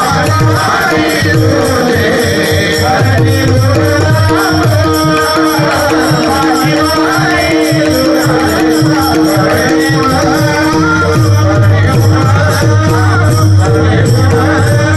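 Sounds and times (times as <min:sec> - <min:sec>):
hand cymbals: 0:00.0 - 0:14.9.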